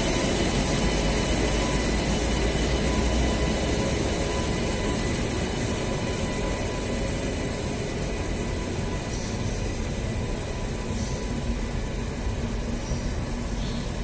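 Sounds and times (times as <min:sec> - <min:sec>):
thin steady whine: 0:00.0 - 0:14.0
train wheels rumbling on rail joints: 0:00.0 - 0:14.0.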